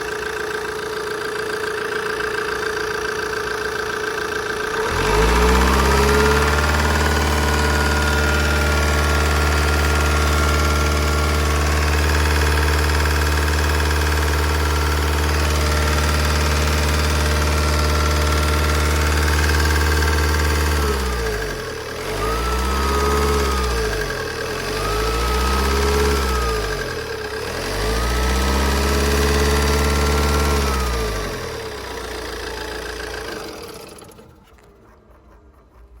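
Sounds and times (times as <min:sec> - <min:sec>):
diesel engine idling and revving: 0:00.0 - 0:36.0.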